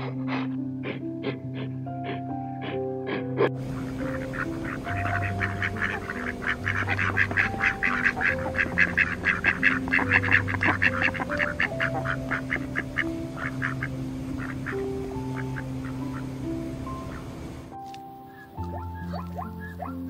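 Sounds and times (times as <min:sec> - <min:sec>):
ducks quacking: 0:00.0 - 0:16.4, 0:18.3 - 0:20.0
soft background music: 0:00.0 - 0:20.0.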